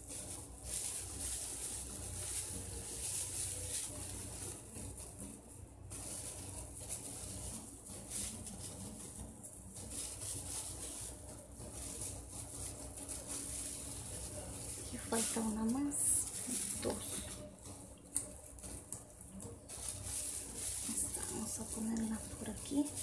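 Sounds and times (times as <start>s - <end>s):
plastic gloves crinkling: 0.0s - 23.0s.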